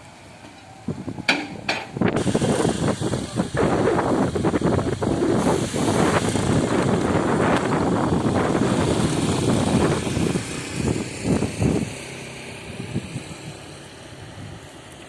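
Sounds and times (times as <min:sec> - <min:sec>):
diesel engine running roughly: 0:00.0 - 0:15.0
steady hum: 0:00.9 - 0:14.9.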